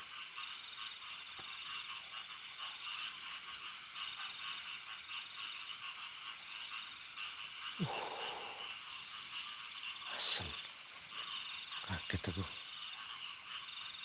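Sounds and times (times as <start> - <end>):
frogs and insects calling: 0.0 - 14.0.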